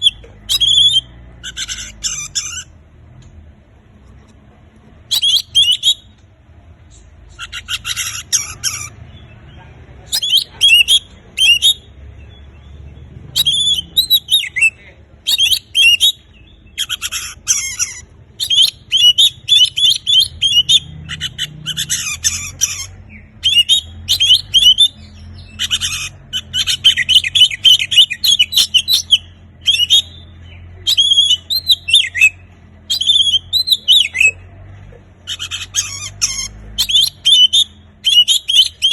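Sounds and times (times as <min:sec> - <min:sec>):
songbird whistling and chirping: 0:00.0 - 0:03.3, 0:05.0 - 0:34.5, 0:35.2 - 0:38.9.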